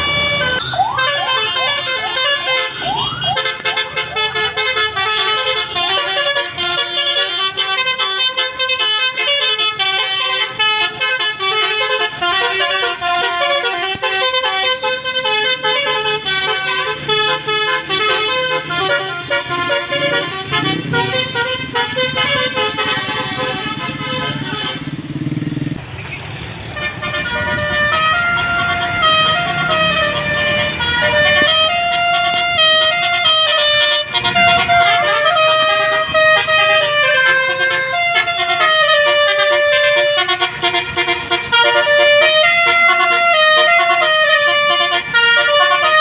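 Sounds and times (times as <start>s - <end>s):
musical air horn tune: 0.0s - 25.0s, 26.8s - 46.0s
bus engine rumbling: 0.0s - 46.0s.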